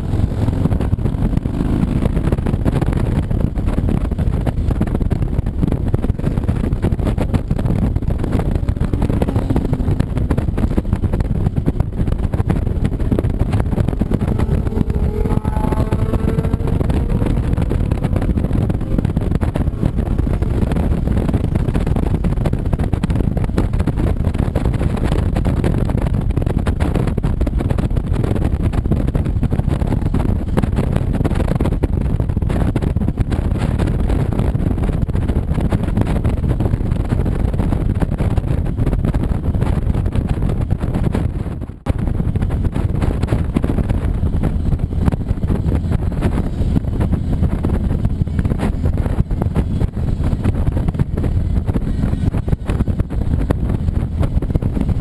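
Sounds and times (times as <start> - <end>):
motorcycle engines droning: 0.0 - 40.0, 42.3 - 55.0
motorcycle engine speeding up: 0.0 - 55.0
road noise: 0.0 - 55.0.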